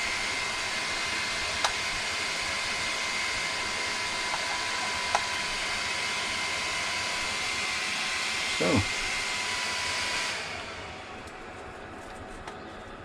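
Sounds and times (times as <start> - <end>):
cooling fans whining: 0.0 - 13.0.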